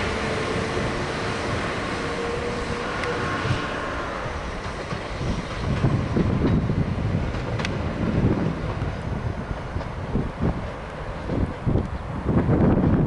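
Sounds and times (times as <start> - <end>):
train wheels rumbling: 0.0 - 13.0
wind buffeting microphone: 0.0 - 13.0.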